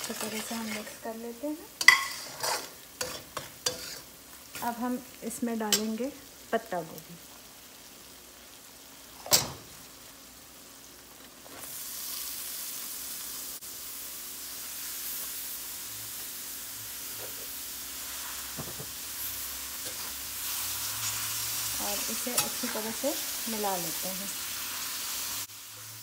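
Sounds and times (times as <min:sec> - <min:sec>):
cabbage sizzling in hot oil: 0:00.0 - 0:26.0.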